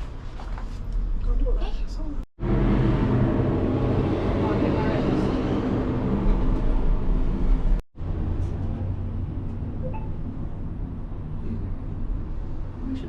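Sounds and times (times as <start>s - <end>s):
cable car gondola humming: 2.4s - 13.0s.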